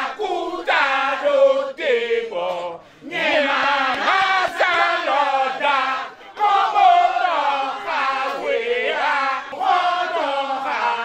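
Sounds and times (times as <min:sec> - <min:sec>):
group of people chanting a song: 0:00.0 - 0:11.0.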